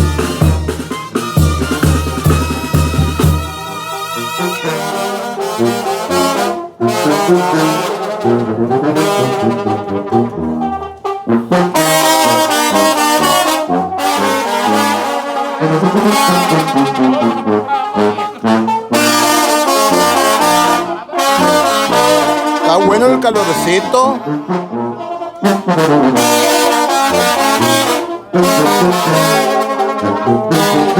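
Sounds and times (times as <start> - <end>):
brass band playing live: 0.0 - 30.9.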